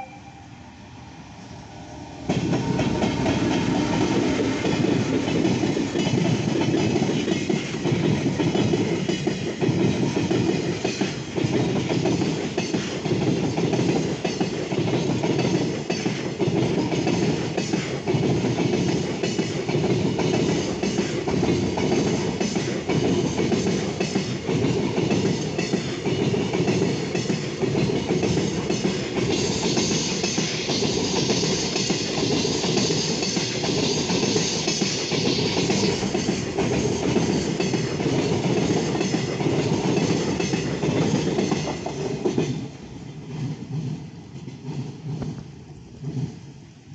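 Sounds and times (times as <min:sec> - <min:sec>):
train wheels clattering over rails: 0:02.2 - 0:46.9.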